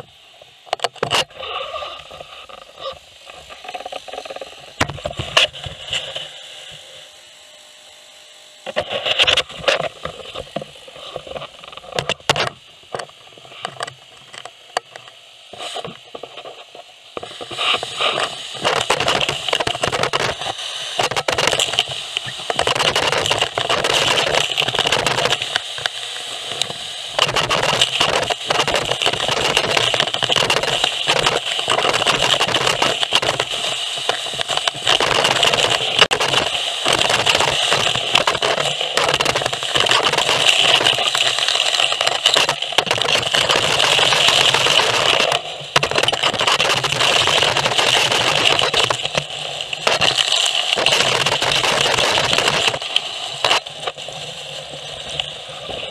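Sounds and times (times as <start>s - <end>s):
vacuum suction whine: 0.0s - 55.9s.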